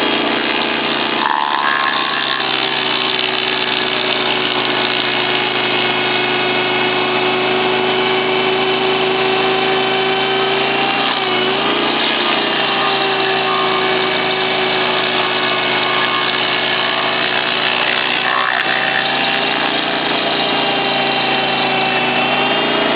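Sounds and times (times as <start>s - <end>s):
stump grinder engine running: 0.0s - 22.9s.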